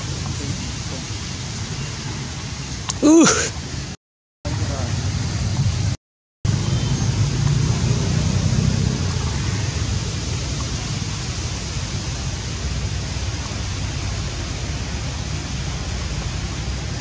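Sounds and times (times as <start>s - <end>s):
outdoor hiss: 0.0s - 5.9s, 6.5s - 17.0s.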